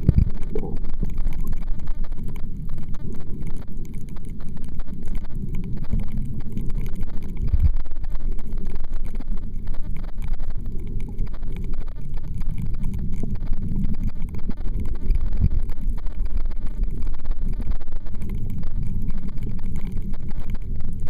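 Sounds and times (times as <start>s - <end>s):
faint crackling clicks: 0.0s - 21.0s
muffled underwater rumble: 0.0s - 21.0s.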